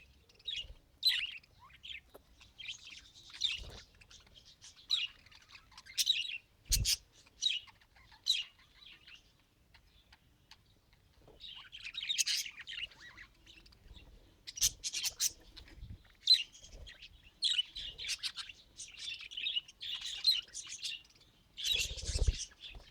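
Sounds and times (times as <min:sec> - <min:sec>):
budgerigar chirping and chattering: 0:00.2 - 0:22.9.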